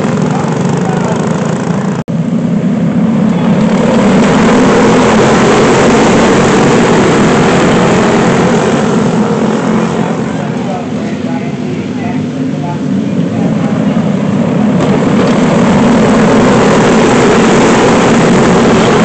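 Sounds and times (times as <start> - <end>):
go-kart engines droning: 0.0 - 19.0.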